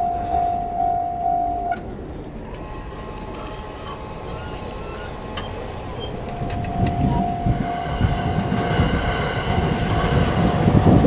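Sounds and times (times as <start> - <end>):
level crossing warning bell: 0.0 - 10.7
low street background: 0.0 - 11.0.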